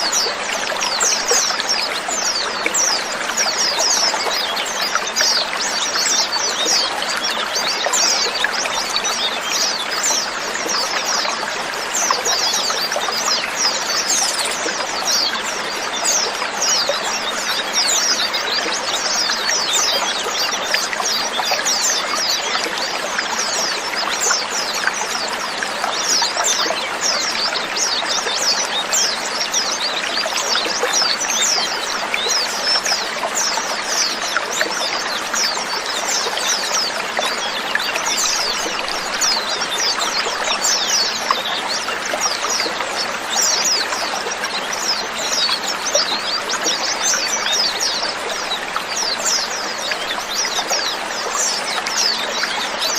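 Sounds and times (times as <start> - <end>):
flock of birds chirping: 0.0 - 52.9.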